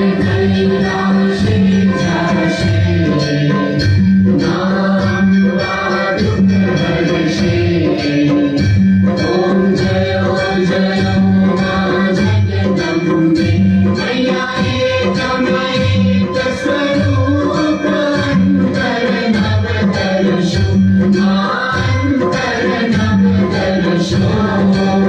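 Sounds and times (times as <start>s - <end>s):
steady percussion beat: 0.0s - 25.0s
voices singing: 0.0s - 25.0s.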